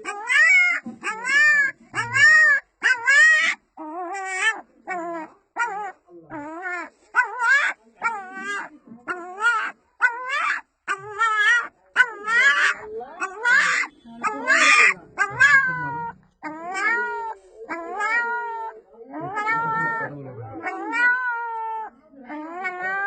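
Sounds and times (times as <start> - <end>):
puppy whining: 0.0 - 23.0.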